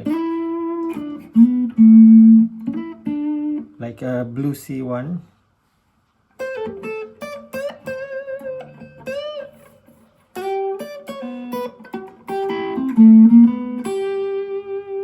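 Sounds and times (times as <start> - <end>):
overdriven electric guitar lead: 0.0 - 3.8, 6.4 - 15.0.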